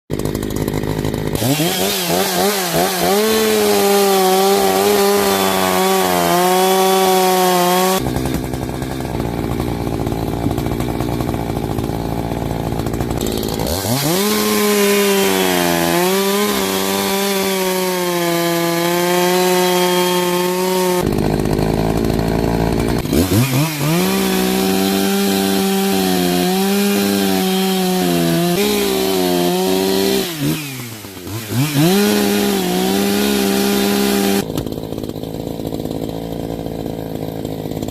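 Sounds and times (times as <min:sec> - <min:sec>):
chainsaw cutting wood: 0:00.1 - 0:37.9.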